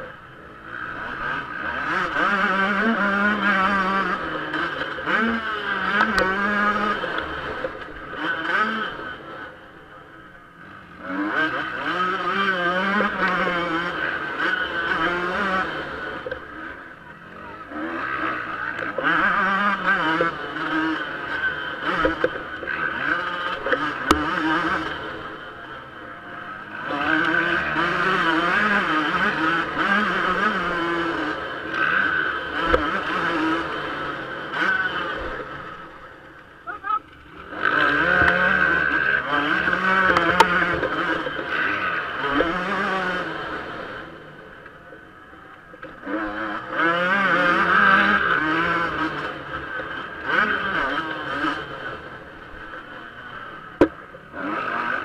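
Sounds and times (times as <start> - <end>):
two-stroke motocross engine revving: 0.0 - 55.0.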